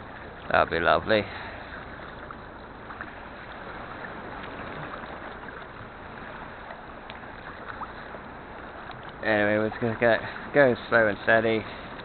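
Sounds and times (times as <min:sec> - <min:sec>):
small paddle splashes: 0:00.0 - 0:12.0
water lapping around kayak: 0:00.0 - 0:12.0.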